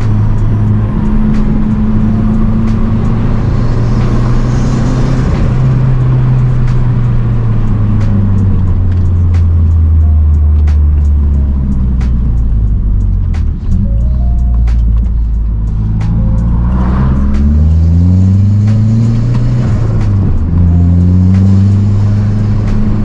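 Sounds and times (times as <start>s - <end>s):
car engine heard from cabin: 0.0s - 23.0s.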